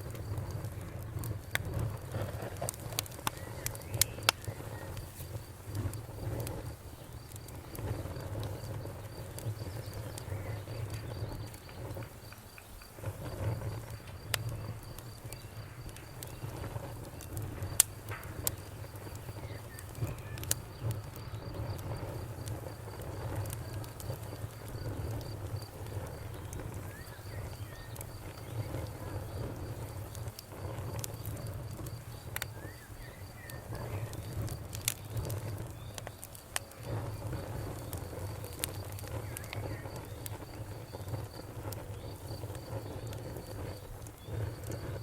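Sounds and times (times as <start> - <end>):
bonfire crackling: 0.0 - 45.0
crickets chirping: 0.0 - 45.0.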